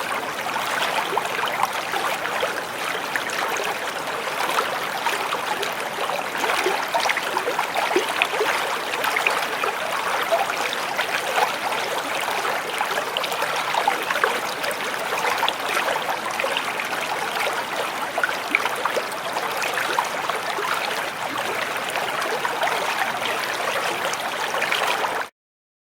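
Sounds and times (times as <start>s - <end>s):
stream water trickling: 0.0s - 25.3s.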